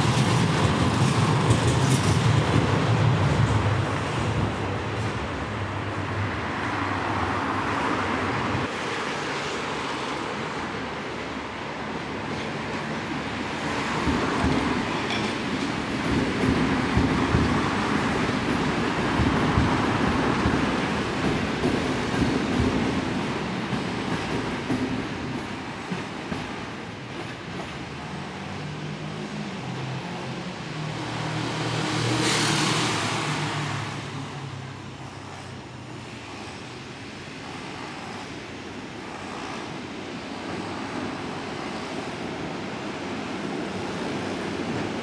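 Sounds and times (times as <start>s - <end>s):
train rumbling across steel bridge: 0.0s - 45.0s
tram passing: 0.0s - 45.0s.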